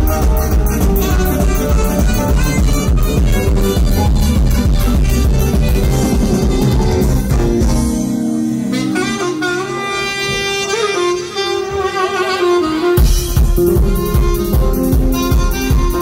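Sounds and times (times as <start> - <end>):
drums: 0.0 - 16.0
keyboard: 0.0 - 16.0
saxophone melody: 0.0 - 16.0.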